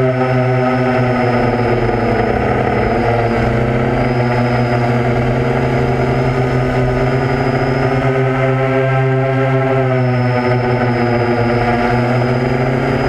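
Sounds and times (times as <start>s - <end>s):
drone motors and propellers whine: 0.0s - 13.0s.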